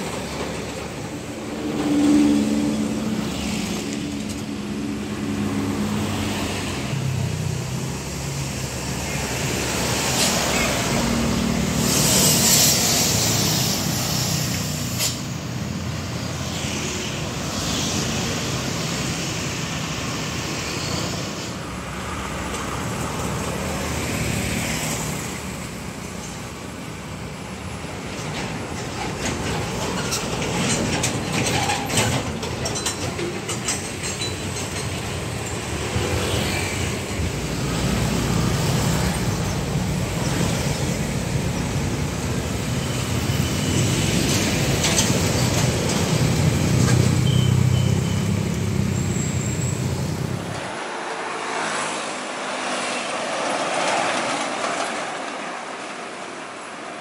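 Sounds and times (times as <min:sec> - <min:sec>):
motorcycle engines: 0:00.1 - 0:54.6.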